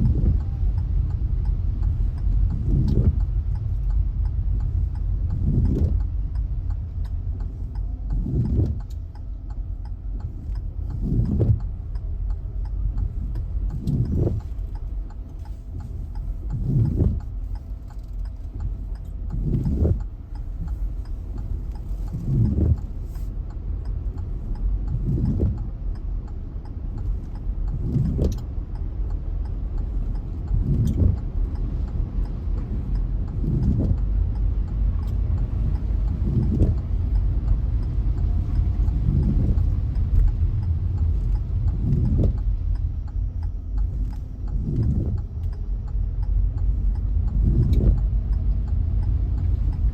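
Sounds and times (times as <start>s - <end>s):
car engine and road noise: 0.0s - 49.9s
windshield wiper swishing: 0.0s - 49.9s.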